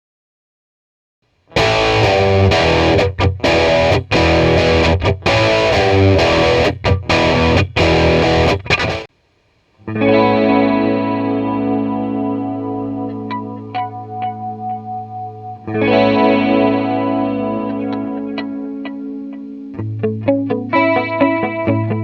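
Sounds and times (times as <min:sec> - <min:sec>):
distorted electric guitar riff: 0:01.5 - 0:09.1, 0:09.8 - 0:22.0
clean guitar chord ringing: 0:01.6 - 0:09.0, 0:09.9 - 0:22.0.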